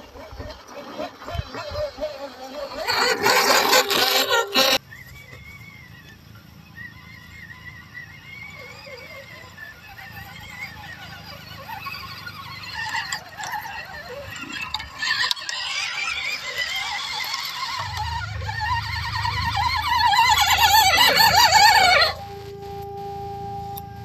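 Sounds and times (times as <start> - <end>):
small electric motors whining: 0.0 - 24.0.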